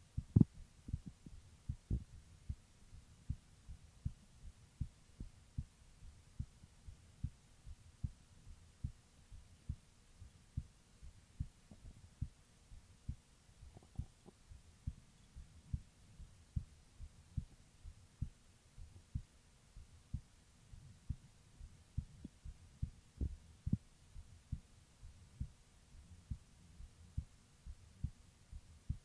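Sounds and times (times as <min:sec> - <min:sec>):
faint low hum: 0:00.0 - 0:29.0
heartbeat through stethoscope: 0:00.1 - 0:25.6, 0:26.3 - 0:29.0.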